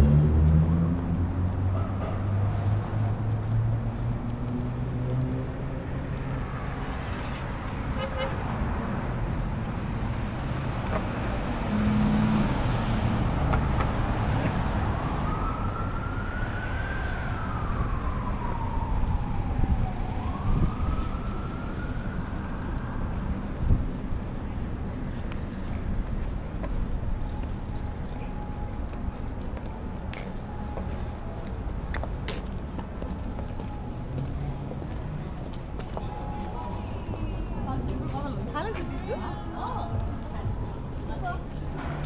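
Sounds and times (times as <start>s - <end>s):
street traffic engines: 0.0s - 42.0s
emergency vehicle siren wailing: 2.6s - 8.0s, 9.6s - 24.6s, 26.2s - 40.8s.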